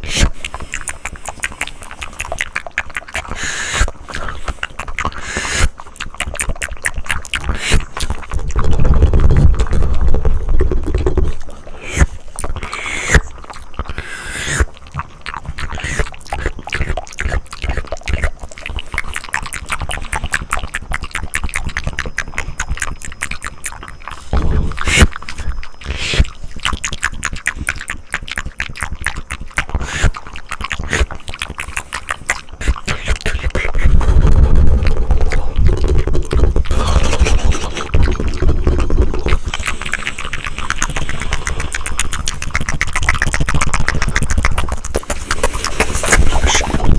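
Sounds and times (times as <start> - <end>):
wet mouth clicks: 0.0 - 46.9.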